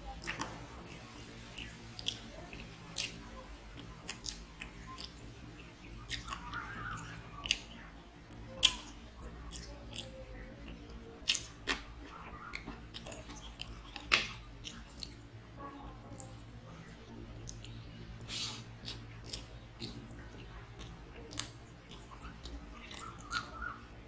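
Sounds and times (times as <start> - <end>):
chewing on a bone: 0.1 - 15.3, 15.9 - 24.0.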